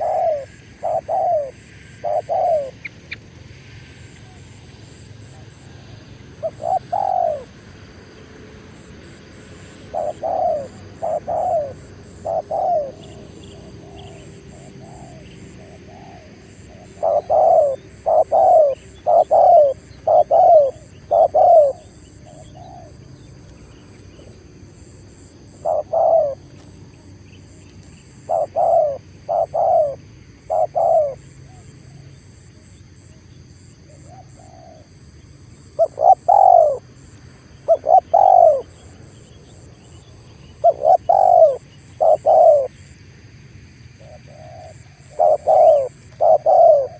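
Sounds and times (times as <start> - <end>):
dove cooing: 0.0 - 35.0, 35.6 - 42.8, 44.0 - 46.9.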